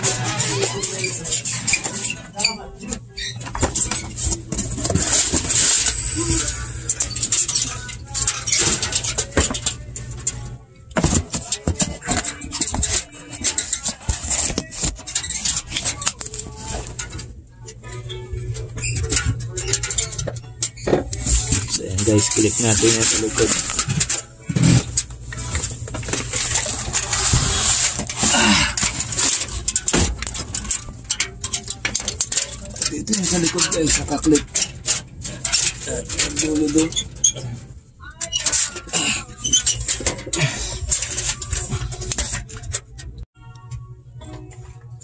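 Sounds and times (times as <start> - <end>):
rustling and scraping: 0.0 - 43.3
metallic clicks and rattles: 0.0 - 44.6.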